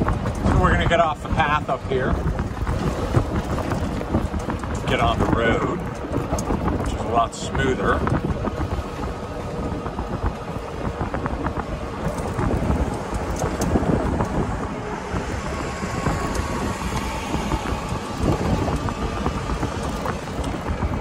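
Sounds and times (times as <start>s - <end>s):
golf cart driving: 0.0s - 21.0s
wind buffeting microphone: 0.0s - 21.0s.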